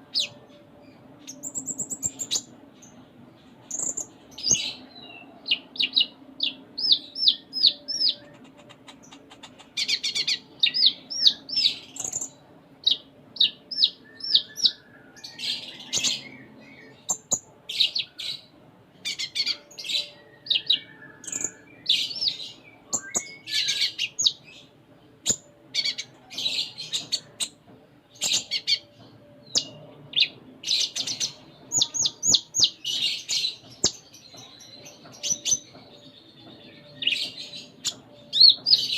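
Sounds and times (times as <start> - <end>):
sunbird singing high chirps: 0.0 - 3.0, 3.7 - 27.6, 28.2 - 38.9.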